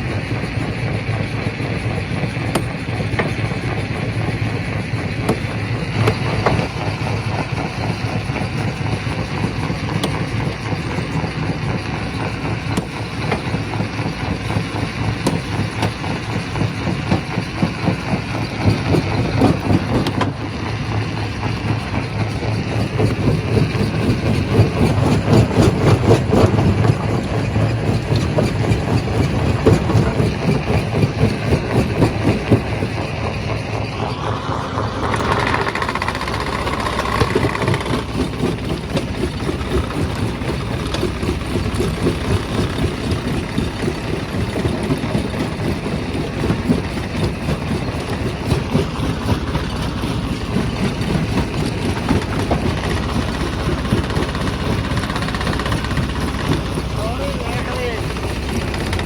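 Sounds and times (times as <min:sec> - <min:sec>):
rock crusher machine drone: 0:00.0 - 0:59.0.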